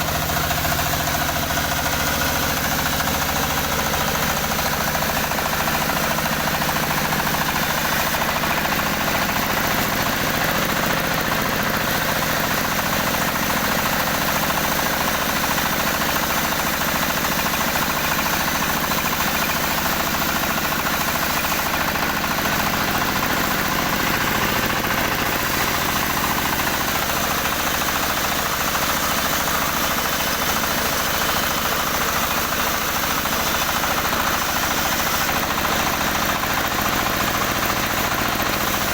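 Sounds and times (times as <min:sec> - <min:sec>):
motorised wood saw engine running: 0:00.0 - 0:38.9.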